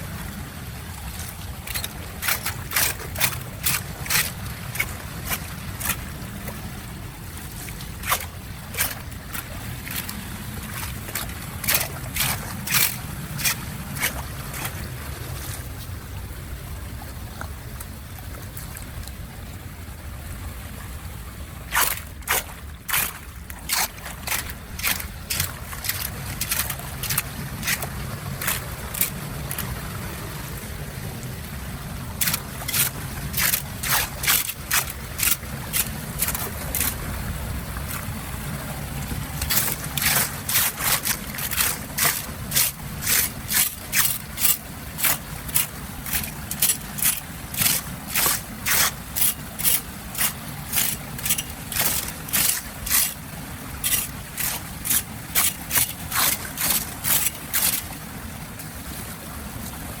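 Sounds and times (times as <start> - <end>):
water running: 0.0 - 16.3, 21.6 - 60.0.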